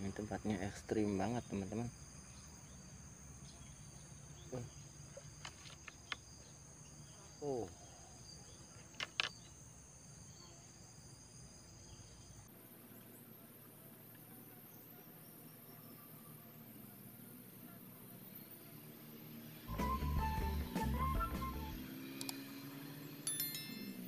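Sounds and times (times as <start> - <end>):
insects chirring: 0.0 - 20.6.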